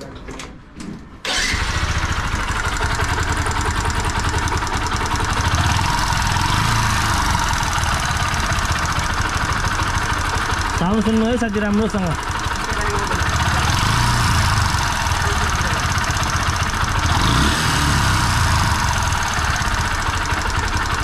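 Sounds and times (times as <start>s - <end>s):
motorcycle engine starting and idling: 1.2s - 21.0s
fast engine ticking: 1.3s - 21.0s.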